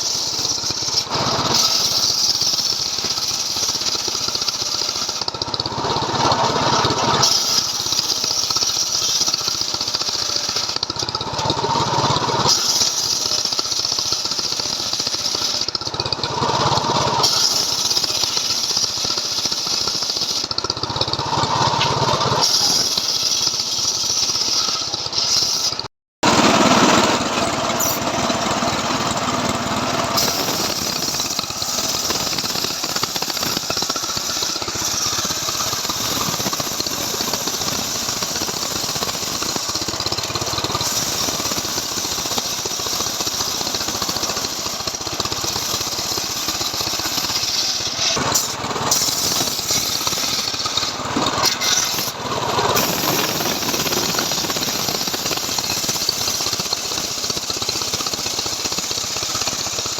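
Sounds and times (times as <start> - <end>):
chainsaw ripping a log: 0.0 - 20.6, 29.5 - 59.9.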